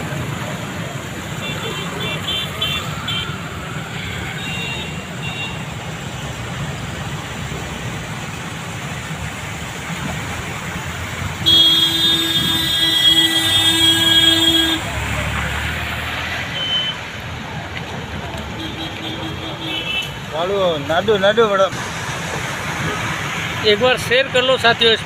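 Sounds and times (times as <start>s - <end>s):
loud steady vehicle tone: 0.0s - 25.0s
traffic engine noise: 0.0s - 25.0s
tyres splashing through water: 0.0s - 25.0s.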